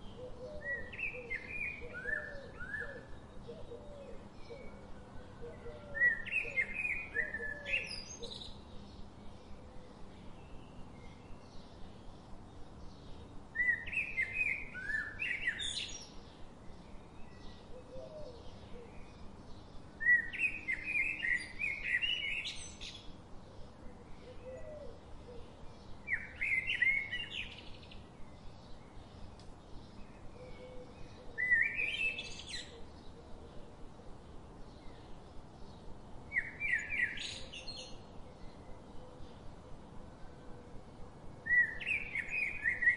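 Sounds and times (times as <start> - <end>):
faint background noise: 0.0 - 42.9.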